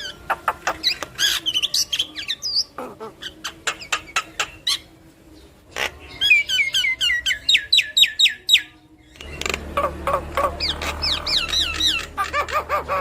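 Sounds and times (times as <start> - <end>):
myna bird singing: 0.0 - 13.0.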